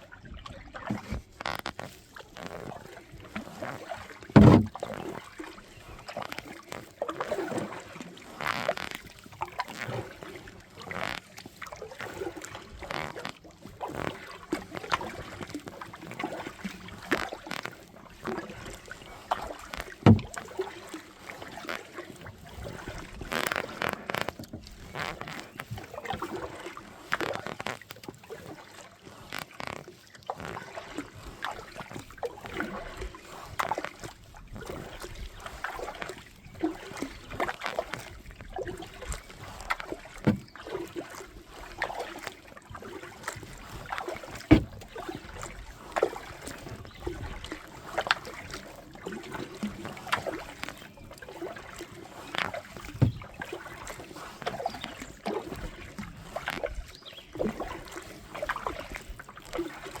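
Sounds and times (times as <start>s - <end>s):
water splashing and dripping: 0.3s - 60.0s.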